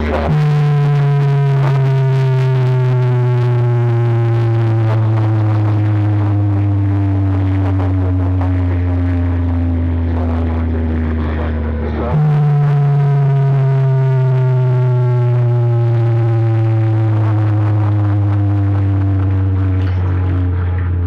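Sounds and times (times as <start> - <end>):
electronic bass drone: 0.0 - 21.0
high tones gliding downward: 0.0 - 21.0.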